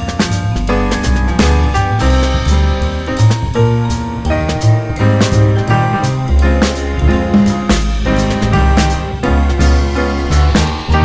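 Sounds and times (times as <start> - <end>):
drum-kit beat: 0.0 - 11.0
held keyboard chords: 0.0 - 11.0.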